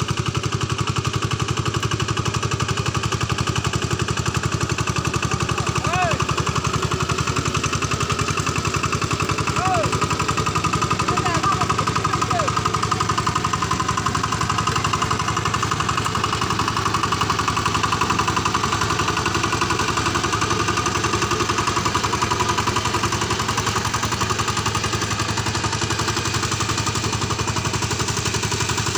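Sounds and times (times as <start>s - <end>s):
diesel engine chugging: 0.0s - 28.9s.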